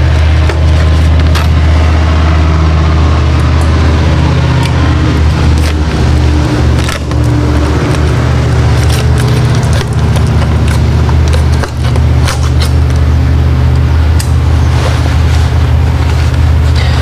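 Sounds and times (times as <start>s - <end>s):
low machine drone: 0.0s - 17.0s.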